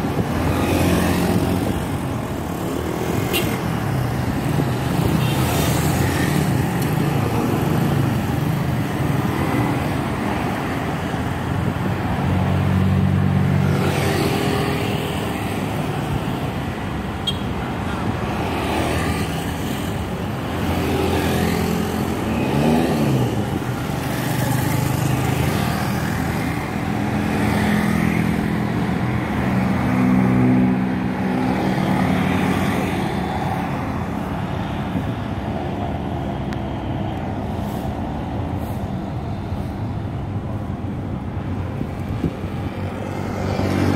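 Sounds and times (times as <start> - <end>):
traffic engines droning: 0.0 - 43.9.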